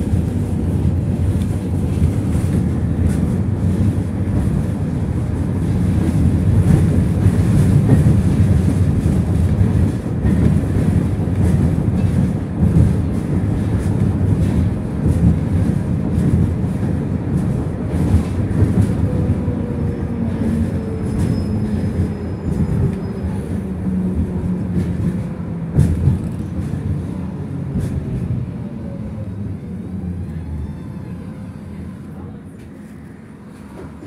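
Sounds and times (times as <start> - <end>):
tram wheels rumbling on rails: 0.0 - 34.0.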